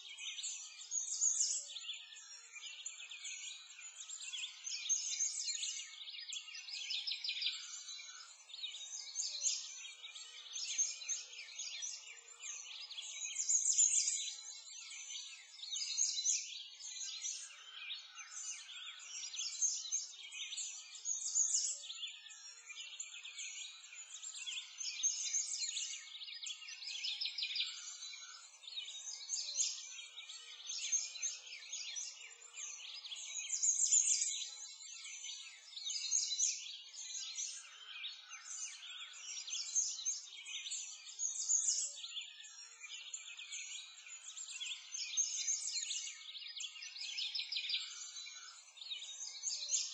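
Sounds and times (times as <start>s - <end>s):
songbirds chirping and trilling: 0.0s - 49.9s.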